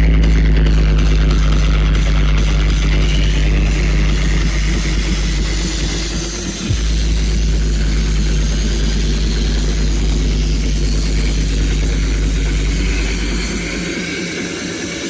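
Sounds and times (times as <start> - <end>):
sub-bass tones from subwoofers: 0.0 - 15.0.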